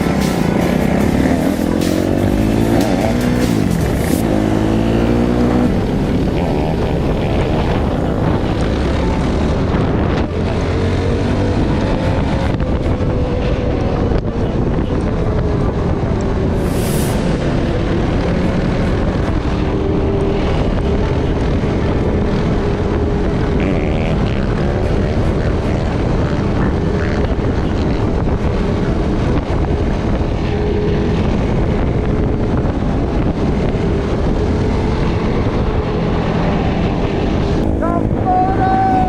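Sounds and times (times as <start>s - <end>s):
off-road vehicle engine running: 0.0s - 39.0s.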